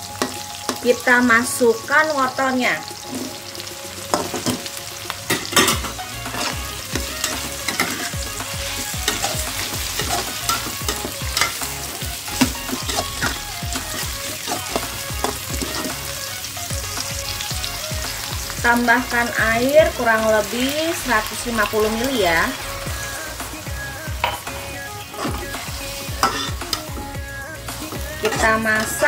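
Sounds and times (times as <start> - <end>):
oil frying sizzle: 0.0 - 29.0
spatula scraping wok: 2.9 - 29.0.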